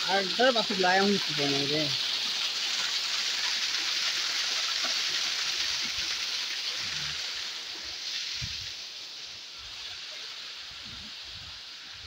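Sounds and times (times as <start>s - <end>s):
small waterfall splashing: 0.0s - 12.0s.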